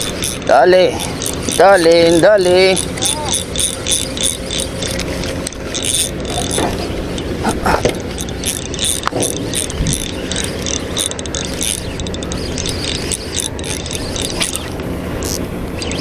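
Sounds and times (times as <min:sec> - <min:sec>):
fishing reel gears ticking: 0:00.0 - 0:07.4, 0:08.0 - 0:16.0
steady low hum: 0:00.0 - 0:16.0.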